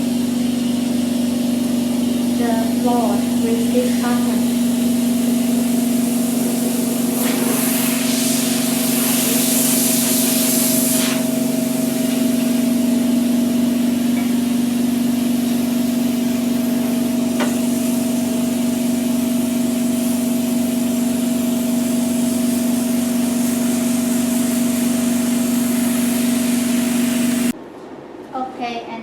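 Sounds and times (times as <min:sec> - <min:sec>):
pump humming with hiss: 0:00.0 - 0:27.6.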